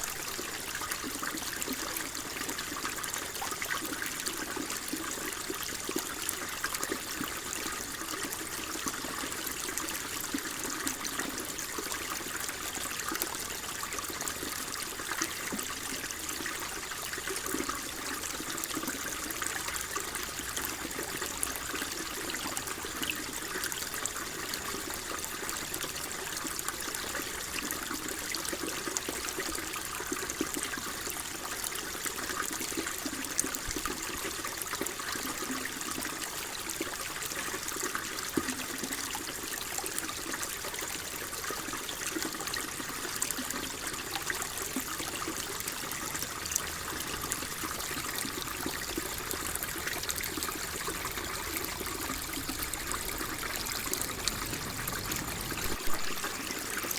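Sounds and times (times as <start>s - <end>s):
water flowing and trickling: 0.0s - 56.9s.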